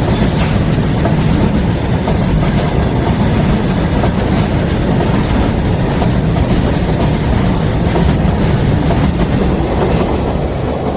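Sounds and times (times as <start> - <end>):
train wheels on rails: 0.0 - 10.9.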